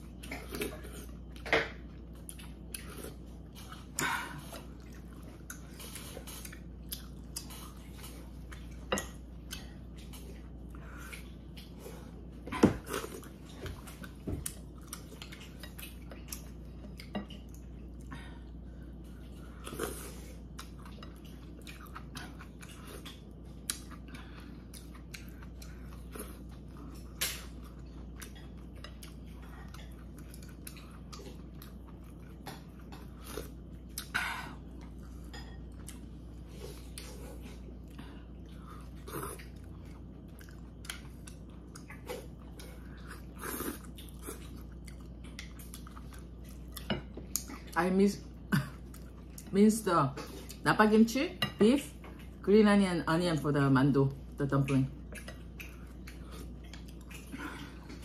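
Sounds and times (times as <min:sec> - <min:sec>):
person chewing: 0:00.0 - 0:49.6, 0:54.9 - 0:58.0.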